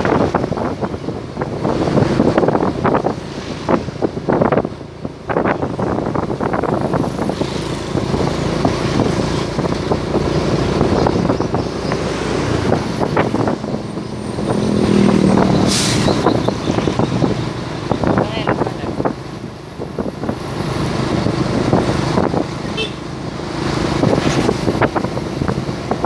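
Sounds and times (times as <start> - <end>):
heavy vehicle engine passing: 0.0 - 26.0.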